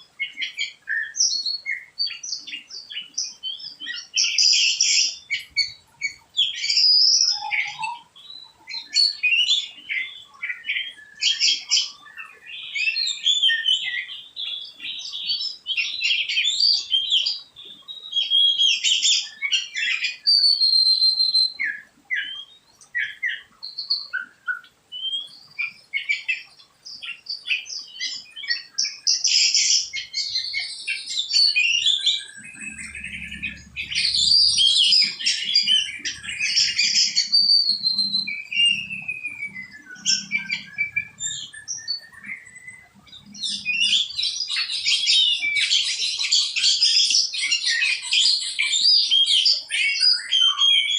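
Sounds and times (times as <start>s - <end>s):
songbirds chirping and trilling: 0.0s - 50.9s.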